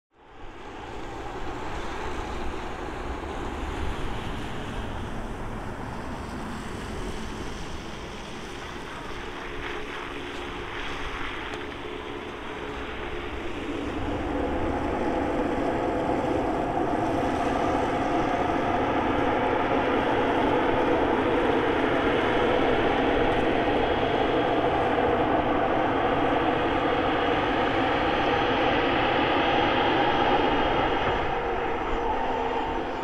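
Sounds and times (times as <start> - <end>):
jet engines rushing and whining: 0.2 - 33.0.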